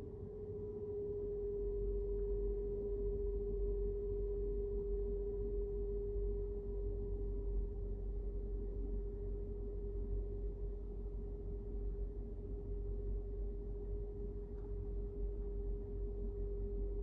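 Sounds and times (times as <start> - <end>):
steady single-pitched hum: 0.0 - 17.0.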